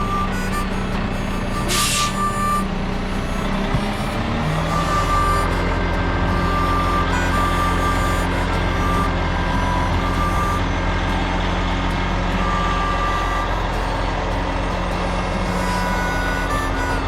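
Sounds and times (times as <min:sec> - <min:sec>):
backup alarm beeping: 0:00.0 - 0:17.0
heavy vehicle engine running: 0:00.0 - 0:17.0.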